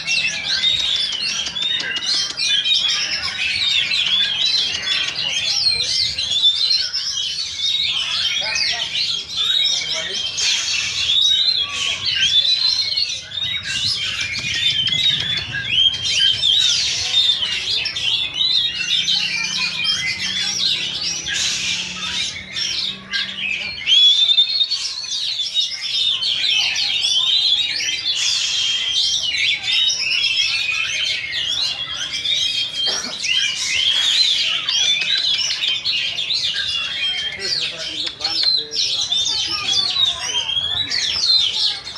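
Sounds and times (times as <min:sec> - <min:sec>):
birds singing in chorus: 0:00.0 - 0:41.9.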